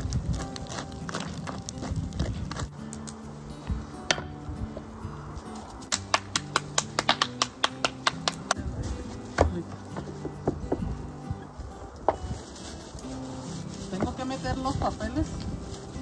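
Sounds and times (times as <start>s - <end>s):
background music with held notes: 0.0s - 16.0s.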